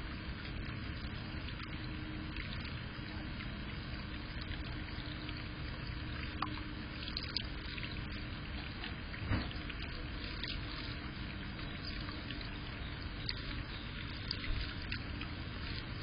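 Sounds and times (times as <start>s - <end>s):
faint water splashes: 0.0s - 16.0s
fountain water pouring into tub: 0.0s - 16.0s.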